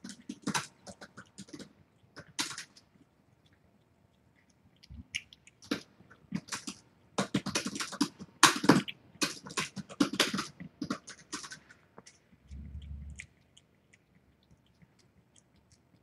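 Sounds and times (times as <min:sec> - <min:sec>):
cat chewing wet food: 0:00.0 - 0:16.0.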